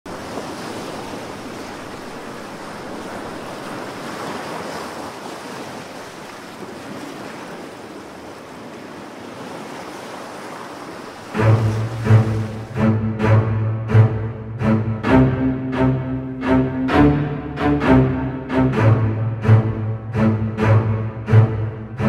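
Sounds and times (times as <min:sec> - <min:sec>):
ocean waves and surf: 0:00.0 - 0:22.0.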